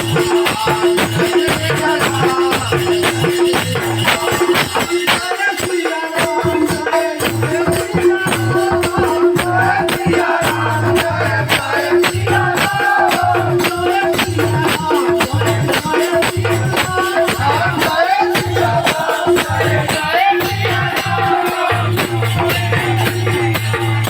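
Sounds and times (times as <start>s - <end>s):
jingling percussion beat: 0.0s - 24.0s.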